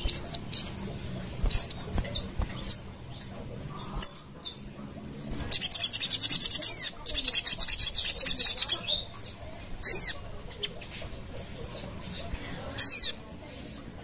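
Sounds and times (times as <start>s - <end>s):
bird chirping and trilling: 0.0s - 14.0s.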